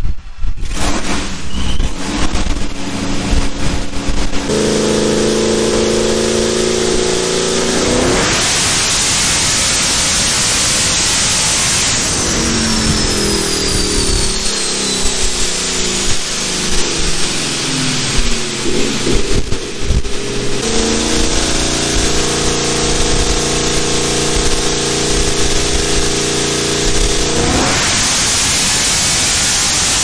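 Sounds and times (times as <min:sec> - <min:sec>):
high whine falling in pitch: 0:00.0 - 0:30.0
car engine revving on a dyno: 0:00.6 - 0:30.0.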